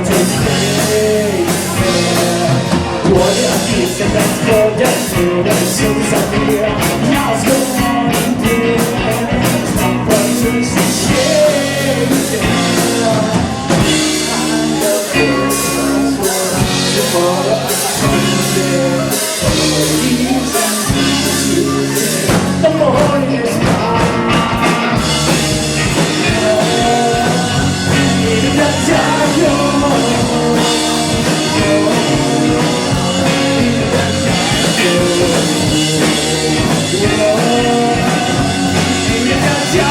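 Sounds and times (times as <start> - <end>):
drum kit: 0.0 - 39.9
guitar: 0.0 - 39.9
live rock band playing: 0.0 - 39.9
person singing: 0.0 - 39.9.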